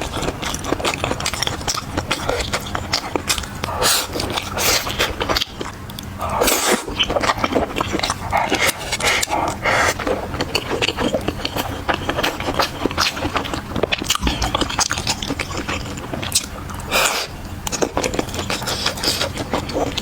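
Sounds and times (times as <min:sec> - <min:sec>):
chewing and wet mouth noises: 0:00.0 - 0:20.0.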